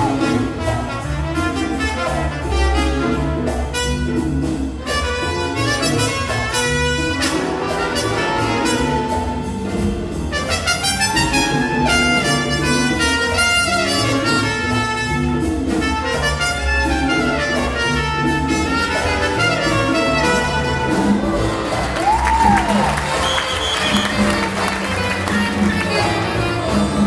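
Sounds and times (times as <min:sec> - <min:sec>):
jazz big band playing: 0:00.0 - 0:27.0.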